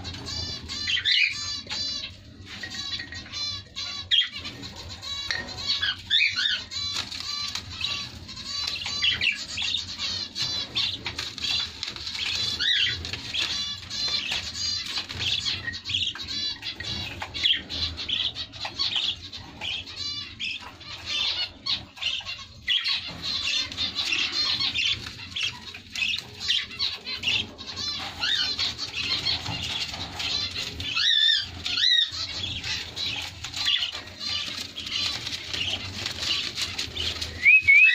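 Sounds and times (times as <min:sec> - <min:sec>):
birds chirping and chattering: 0:00.0 - 0:37.9.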